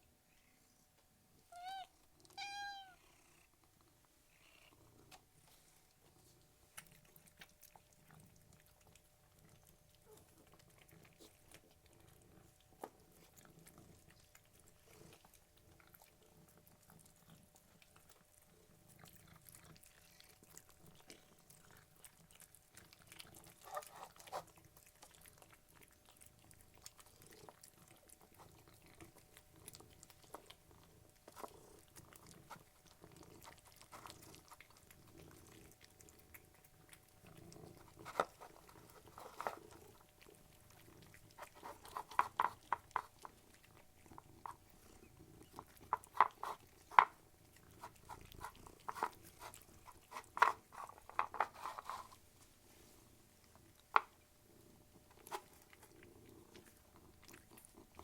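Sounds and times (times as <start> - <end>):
cat purring: 0.0 - 58.0
cats crunching food: 1.0 - 58.0.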